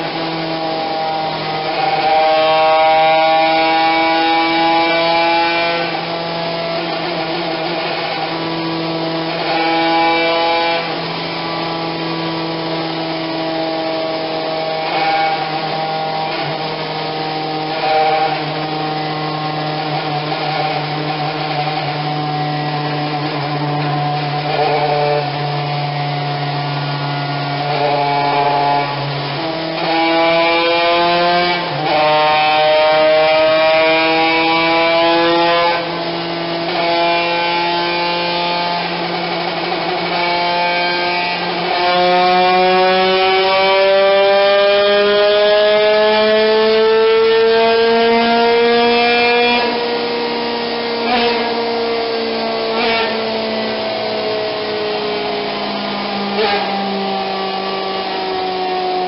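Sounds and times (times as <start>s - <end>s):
racing engine revving under load: 0.0s - 59.0s.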